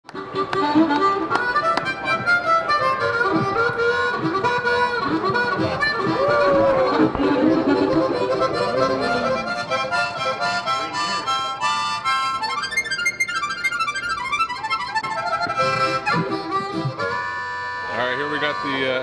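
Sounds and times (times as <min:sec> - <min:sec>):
instrumental melody: 0:00.1 - 0:19.0.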